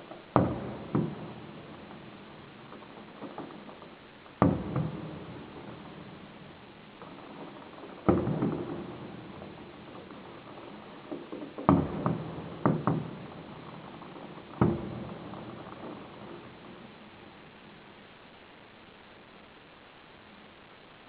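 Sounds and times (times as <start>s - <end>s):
firework shells bursting: 0.0s - 18.6s.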